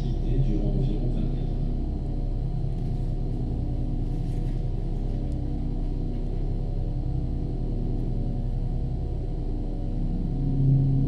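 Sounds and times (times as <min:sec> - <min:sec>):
ambient drone of low tones: 0:00.0 - 0:11.0.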